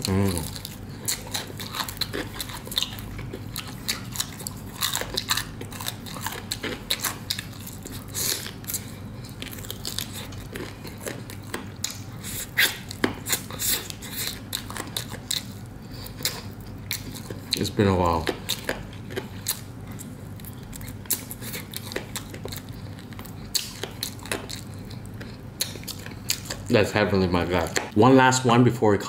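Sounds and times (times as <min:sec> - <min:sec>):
chewing crispy fried chicken: 0:00.0 - 0:28.0.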